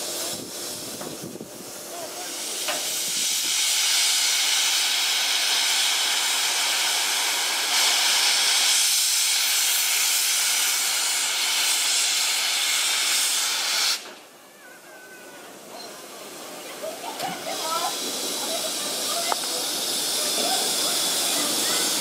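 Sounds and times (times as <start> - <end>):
steam venting hiss: 0.0 - 14.3, 15.0 - 22.0.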